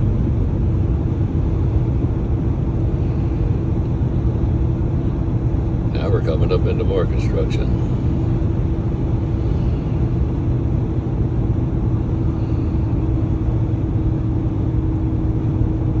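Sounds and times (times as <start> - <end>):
car cabin road noise: 0.0 - 16.0.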